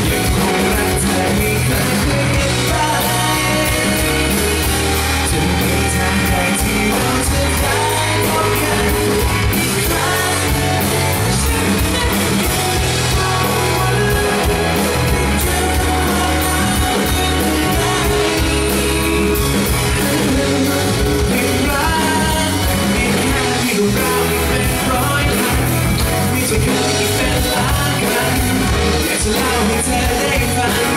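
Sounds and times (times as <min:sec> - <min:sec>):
drum kit: 0:00.0 - 0:30.9
electric bass: 0:00.0 - 0:30.9
electric guitar: 0:00.0 - 0:30.9
keyboard: 0:00.0 - 0:30.9
man singing into a microphone: 0:00.0 - 0:30.9.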